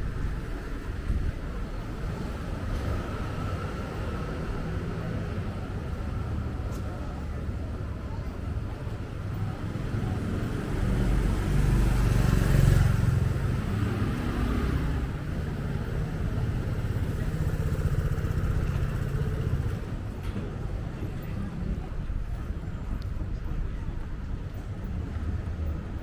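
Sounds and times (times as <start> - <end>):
steady traffic engine noise: 0.0 - 26.0.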